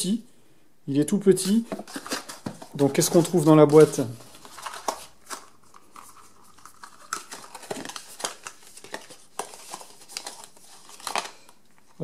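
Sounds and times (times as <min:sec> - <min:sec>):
cardboard and paper rustling: 0:01.4 - 0:12.0.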